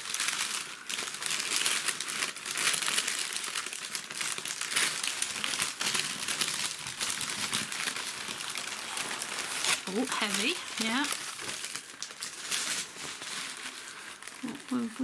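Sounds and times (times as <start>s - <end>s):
packing paper crinkling: 0.0s - 15.0s.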